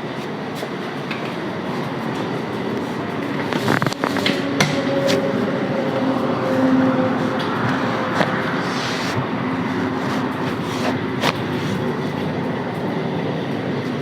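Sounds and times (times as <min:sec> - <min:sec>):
steady rushing noise: 0:01.2 - 0:14.0.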